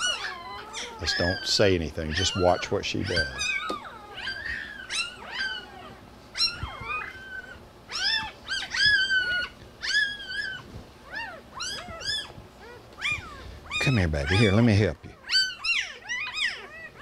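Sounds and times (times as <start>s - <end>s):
puppies crying high-pitched squeals: 0.0s - 17.0s.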